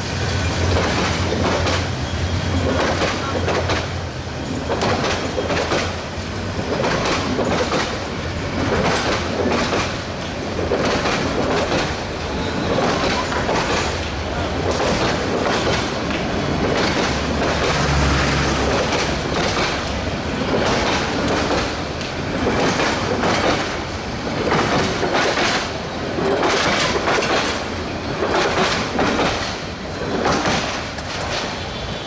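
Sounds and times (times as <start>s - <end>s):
train coaches rushing past: 0.0s - 32.0s
wheels clacking over rail joints: 0.5s - 32.0s.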